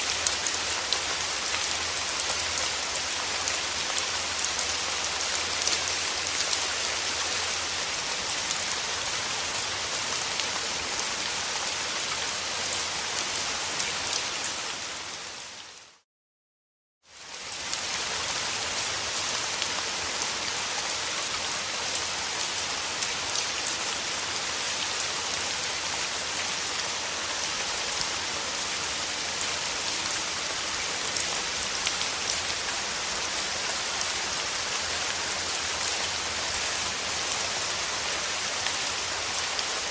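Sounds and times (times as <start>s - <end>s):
steady rain: 0.0s - 16.0s, 17.0s - 39.9s.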